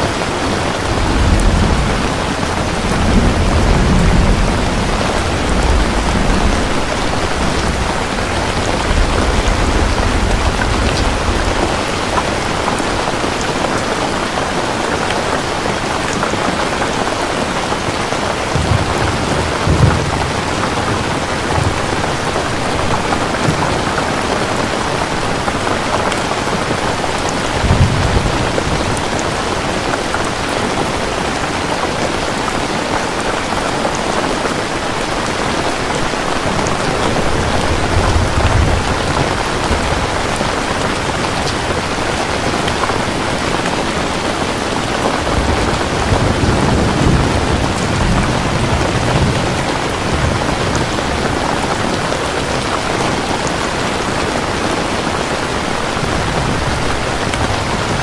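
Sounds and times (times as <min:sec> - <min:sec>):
thunder rumbling: 0:00.0 - 0:32.6, 0:33.8 - 0:58.0
heavy rain falling: 0:00.0 - 0:58.0.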